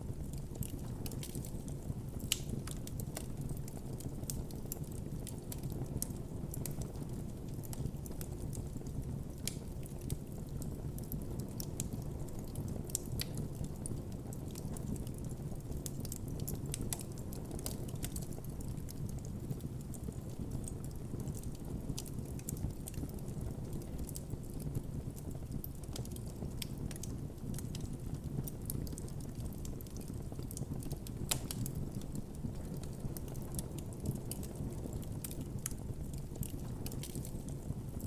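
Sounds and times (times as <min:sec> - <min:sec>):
burning wood crackling and popping: 0:00.0 - 0:38.0
low rumble of flames: 0:00.0 - 0:38.0.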